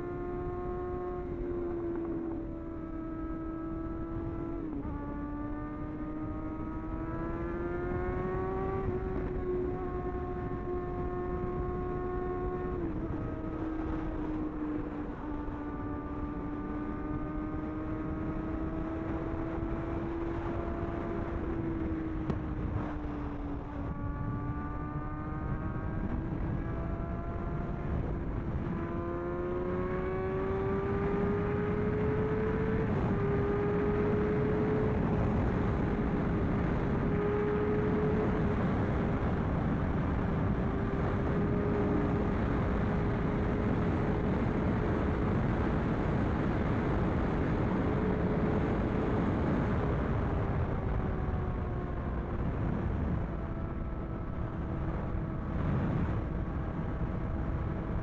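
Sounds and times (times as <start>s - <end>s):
motorcycle engine accelerating: 0.0s - 58.0s
wind noise: 0.0s - 58.0s.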